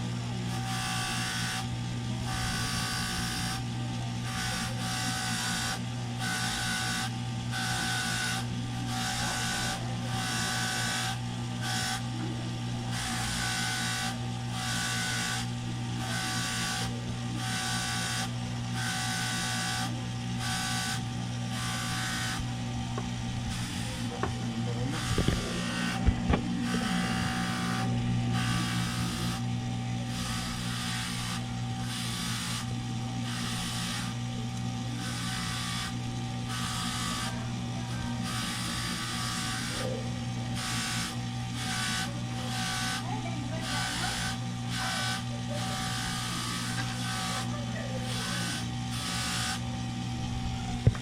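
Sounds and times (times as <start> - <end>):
small electric motor running: 0.0 - 51.0.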